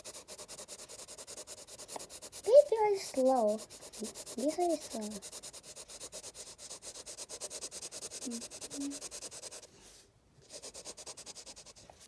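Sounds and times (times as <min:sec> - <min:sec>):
pencil scribbling on paper: 0:00.0 - 0:12.0.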